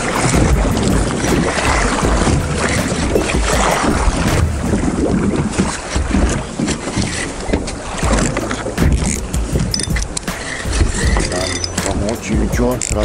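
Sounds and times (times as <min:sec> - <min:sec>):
water washing against boat hull: 0:00.0 - 0:13.0
wind buffeting microphone: 0:00.0 - 0:13.0.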